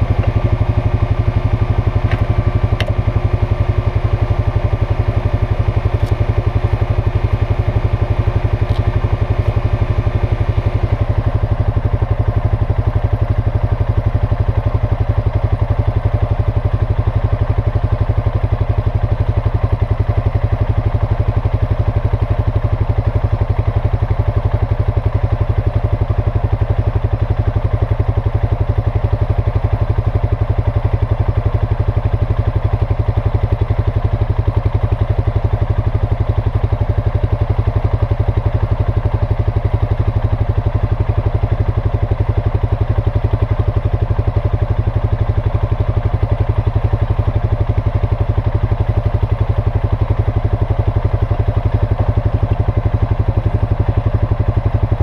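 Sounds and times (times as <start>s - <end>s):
atv engine idling: 0.0s - 55.0s.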